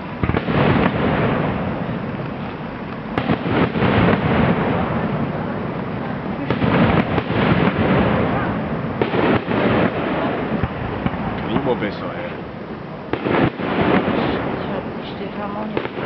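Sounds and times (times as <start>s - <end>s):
fireworks bursting and crackling: 0.0s - 16.0s
sharp firework bangs: 0.0s - 16.0s.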